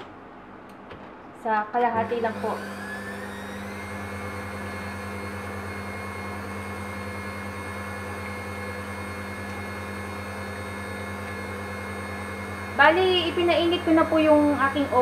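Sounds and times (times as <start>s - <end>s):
stand mixer motor whine: 2.0s - 15.0s.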